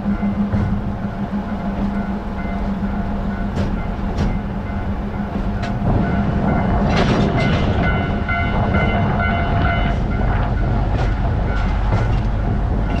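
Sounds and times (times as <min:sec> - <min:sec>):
steady high ringing tones: 0:00.0 - 0:13.0
train rumbling: 0:00.0 - 0:13.0.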